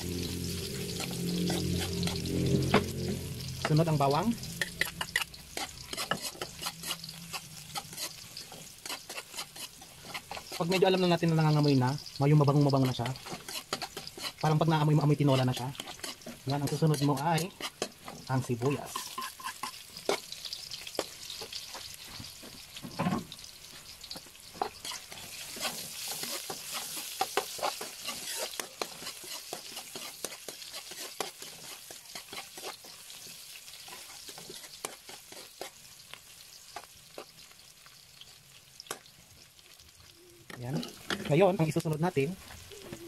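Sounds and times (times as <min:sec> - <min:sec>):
onions sizzling in oil: 0:00.0 - 0:43.0
spatula scraping pan: 0:00.2 - 0:37.4.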